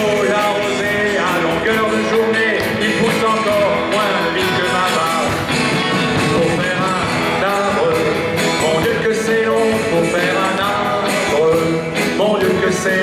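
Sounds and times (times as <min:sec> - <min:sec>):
acoustic guitar strumming: 0:00.0 - 0:13.0
bass guitar: 0:00.0 - 0:13.0
drums: 0:00.0 - 0:13.0
man singing into microphone: 0:00.0 - 0:13.0.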